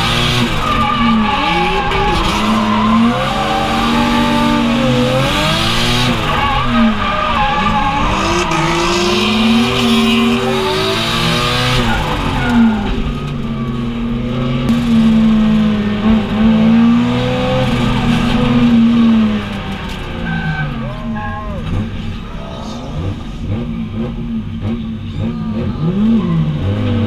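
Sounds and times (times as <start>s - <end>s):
car engine revving: 0.0s - 27.0s
tyres skidding: 0.0s - 27.0s.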